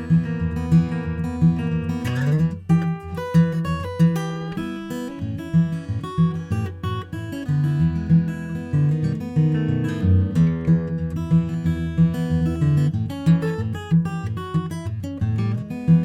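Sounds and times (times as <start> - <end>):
acoustic guitar fingerpicking: 0.0 - 16.0.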